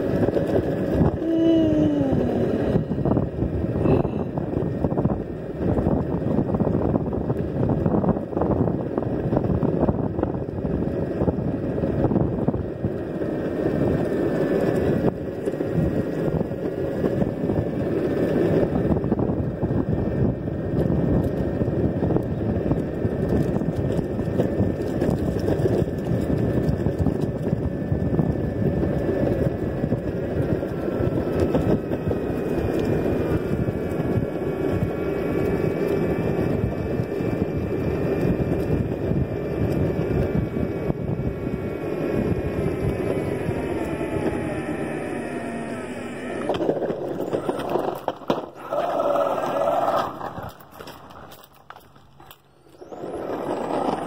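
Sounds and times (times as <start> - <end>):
faint motor whine: 0.0 - 54.0
wheels rumbling on asphalt: 0.0 - 54.0
wind on microphone: 0.0 - 54.0.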